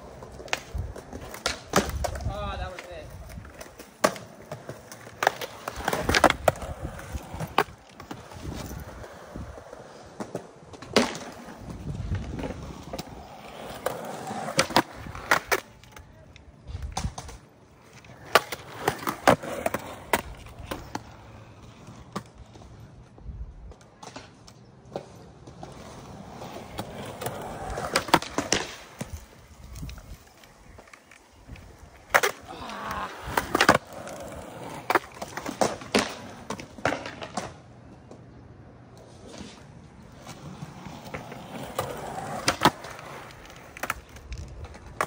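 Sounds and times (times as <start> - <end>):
skateboard clacking on ground: 0.0 - 45.0
skateboard wheels rolling on concrete: 0.0 - 45.0.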